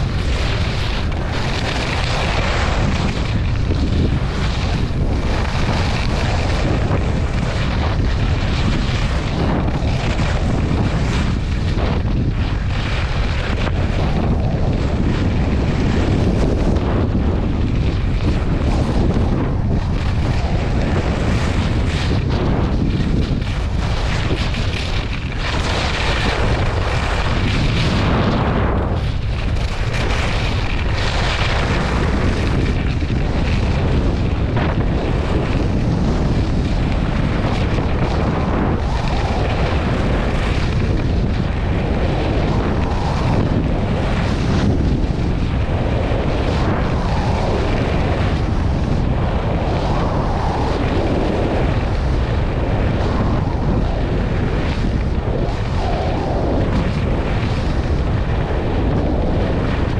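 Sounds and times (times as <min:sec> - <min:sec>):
ski edges carving through snow: 0:00.0 - 0:59.9
wind buffeting on microphone: 0:00.0 - 0:59.9.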